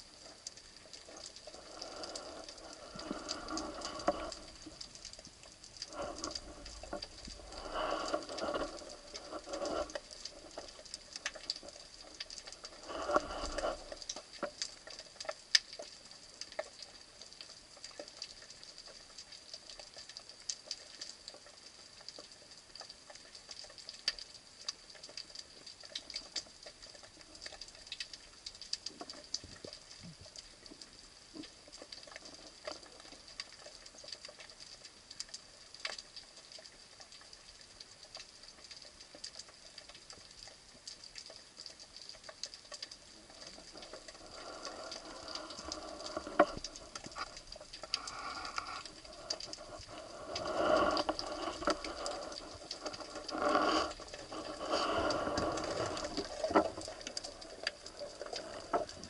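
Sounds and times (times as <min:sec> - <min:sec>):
underwater crackle of clicks: 0:00.0 - 0:59.0.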